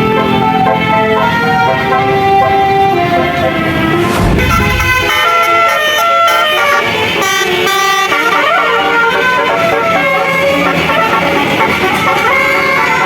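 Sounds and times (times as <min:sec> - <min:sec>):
musical air horns playing melody: 0:00.0 - 0:13.0.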